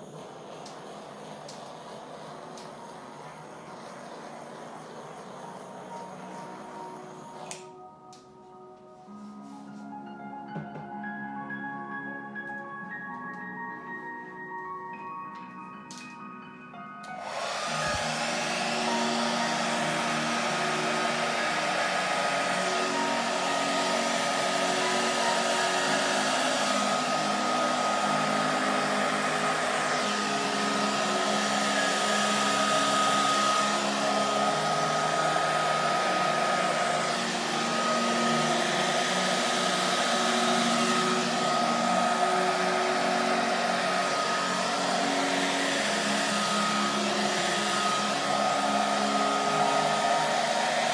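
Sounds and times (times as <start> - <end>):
hair dryer blowing: 0.0 - 7.8, 17.0 - 50.9.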